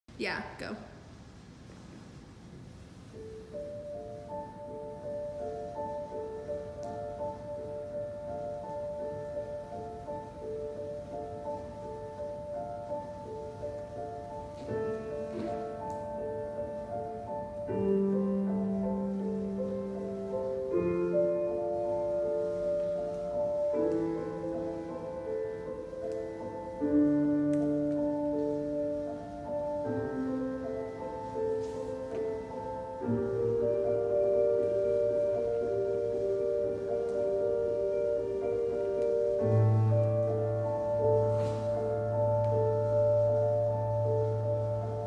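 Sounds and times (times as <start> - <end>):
slow calm instrumental music: 1.7 - 45.0.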